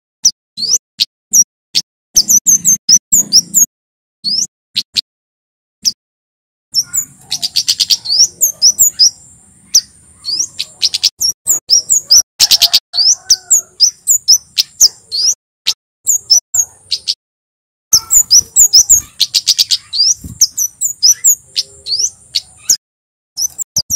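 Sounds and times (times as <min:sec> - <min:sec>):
bird singing high chirps: 0:00.2 - 0:01.5, 0:02.2 - 0:05.0, 0:06.7 - 0:15.4, 0:16.1 - 0:17.2, 0:17.9 - 0:22.8, 0:23.4 - 0:23.9.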